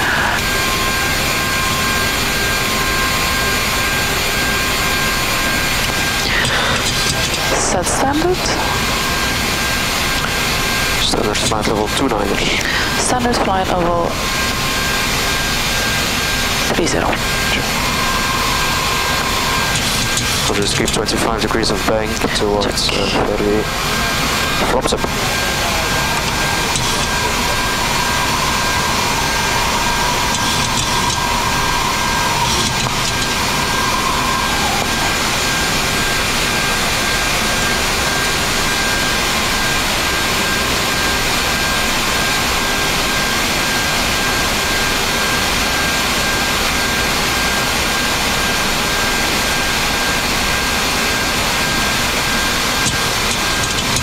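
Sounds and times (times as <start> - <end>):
rush of air and engine noise: 0.0 - 54.0.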